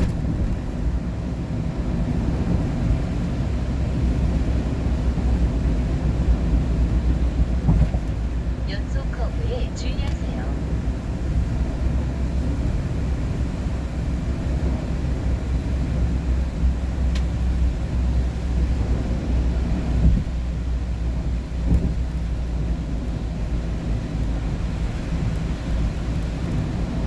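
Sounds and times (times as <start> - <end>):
vehicle engine and tyre rumble: 0.0 - 27.0.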